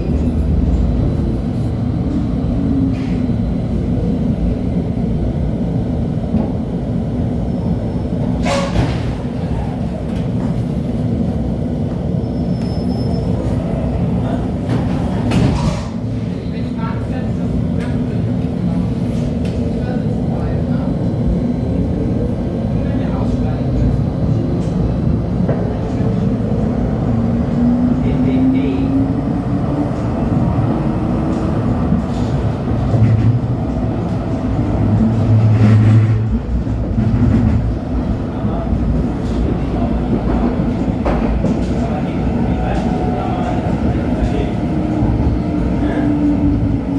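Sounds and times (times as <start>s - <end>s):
light-rail car running rumble: 0.0s - 46.9s.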